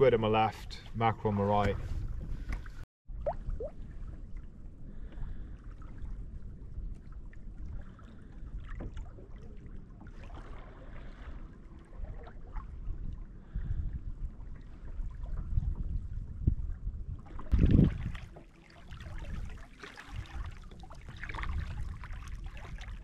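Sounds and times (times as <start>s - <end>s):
waves lapping against kayak hull: 0.1s - 23.0s
wind buffeting microphone: 1.6s - 9.6s, 11.9s - 18.4s, 19.0s - 23.0s.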